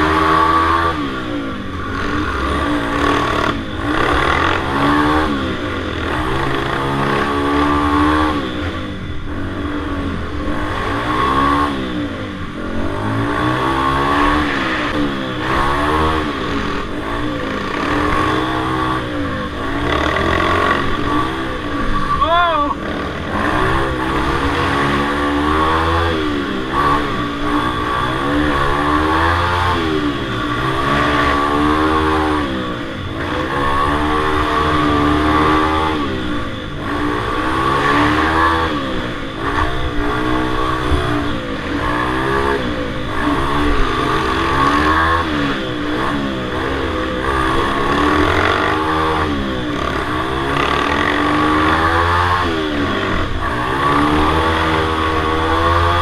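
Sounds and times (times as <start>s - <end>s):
minibike engines revving: 0.0s - 56.0s.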